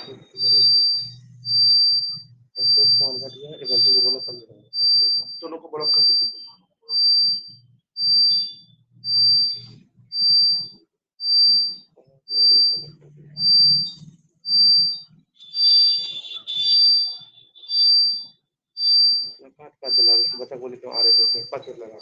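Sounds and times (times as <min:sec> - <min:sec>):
electronic beeper beeping: 0:00.0 - 0:22.0.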